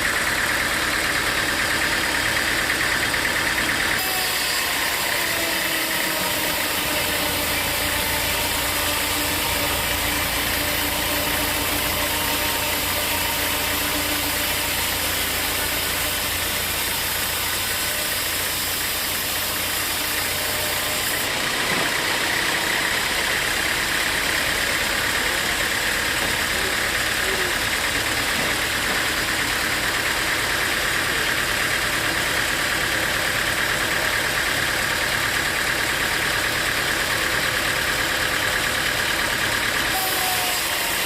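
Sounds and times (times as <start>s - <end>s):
sawmill saw running: 0.0s - 41.0s.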